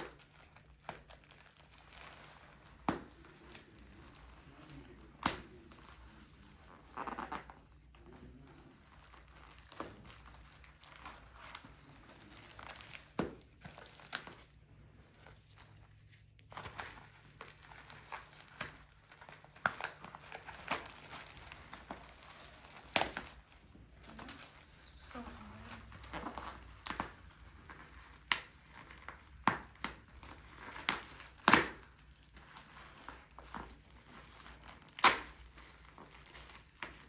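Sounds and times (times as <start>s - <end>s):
plastic ripping: 0.0s - 37.0s
plastic wrapping crinkling: 0.0s - 37.0s.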